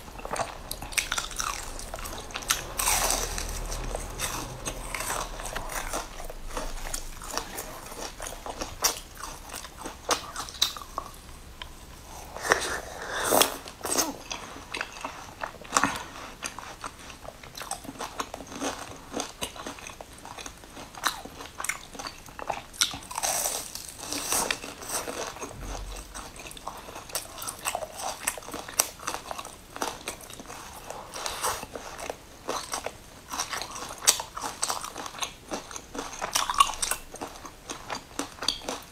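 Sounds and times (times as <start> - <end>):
person chewing crisp pastry: 0.0 - 38.9.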